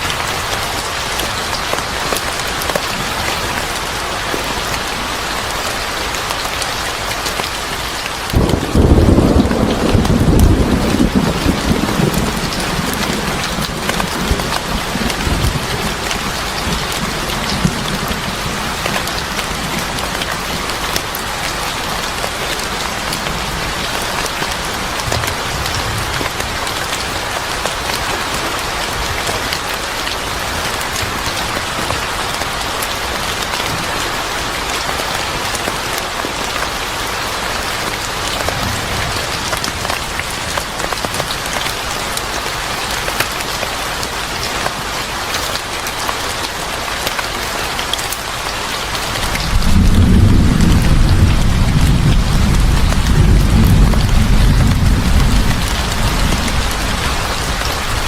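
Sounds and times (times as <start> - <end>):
sharp ticks of raindrops: 0.0 - 58.0
steady rain falling: 0.0 - 58.0.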